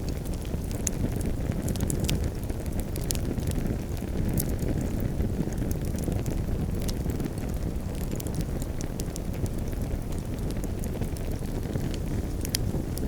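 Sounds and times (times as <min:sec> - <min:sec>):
campfire flames rumbling: 0:00.0 - 0:13.0
wood crackling and popping: 0:00.0 - 0:13.0.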